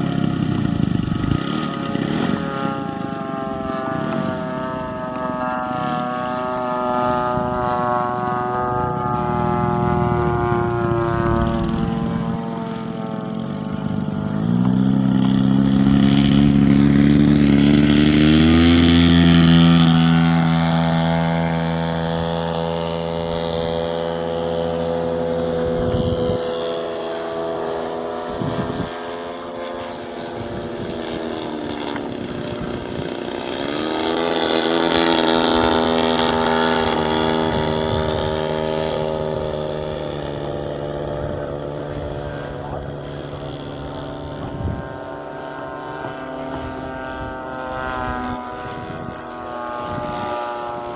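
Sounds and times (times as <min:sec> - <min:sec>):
model plane engine and propeller: 0:00.0 - 0:50.9.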